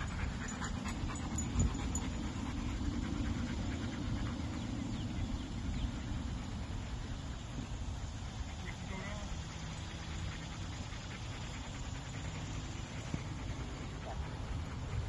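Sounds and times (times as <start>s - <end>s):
dog panting: 0.0s - 15.0s
steady low rumble: 0.0s - 15.0s.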